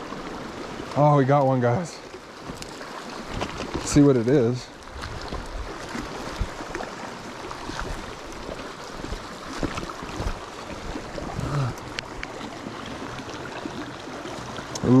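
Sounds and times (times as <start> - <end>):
creek water running and splashing: 0.0 - 15.0.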